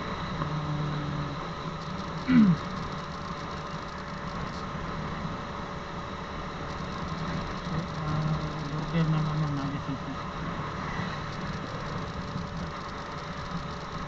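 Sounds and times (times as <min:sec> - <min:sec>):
motorcycle engine running: 0:00.0 - 0:05.7, 0:06.4 - 0:14.0
road and wind noise: 0:00.0 - 0:14.0.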